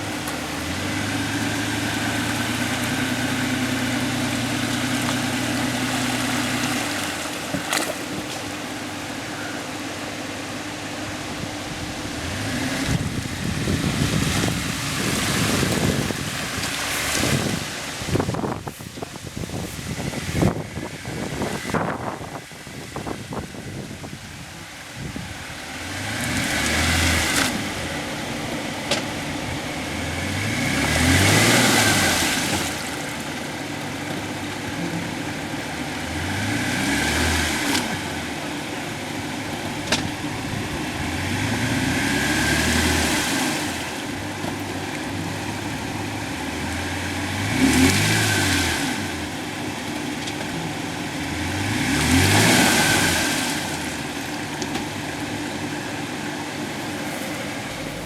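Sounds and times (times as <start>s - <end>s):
suv engine revving: 0.0s - 58.0s.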